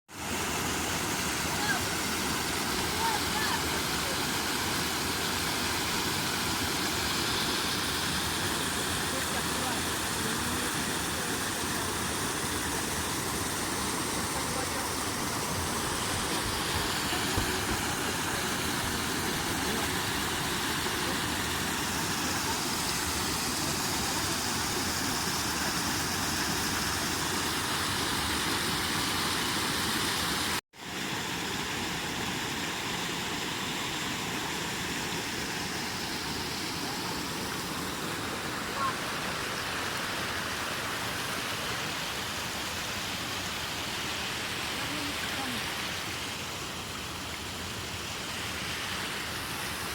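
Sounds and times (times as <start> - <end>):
waterfall rushing: 0.1 - 49.9.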